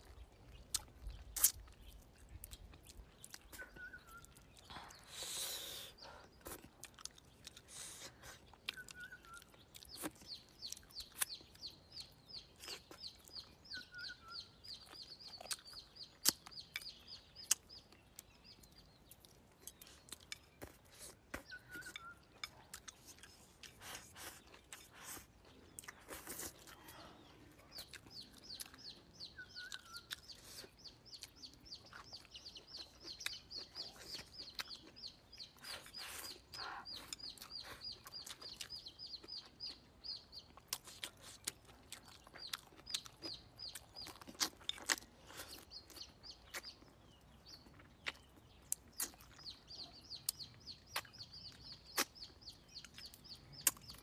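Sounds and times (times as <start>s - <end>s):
chewing with sharp clicks: 0.0s - 54.0s
rapid high bird chirps: 7.4s - 54.0s.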